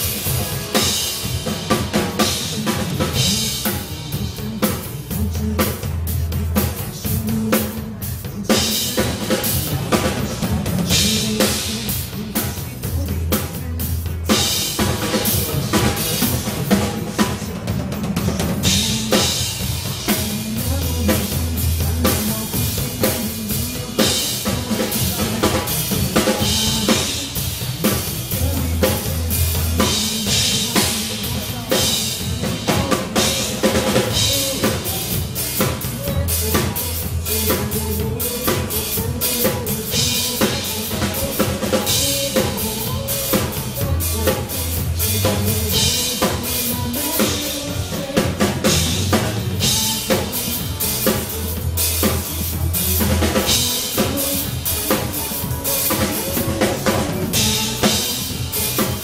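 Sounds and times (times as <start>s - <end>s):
drum kit playing: 0.0s - 59.0s
pop backing track: 0.0s - 59.0s.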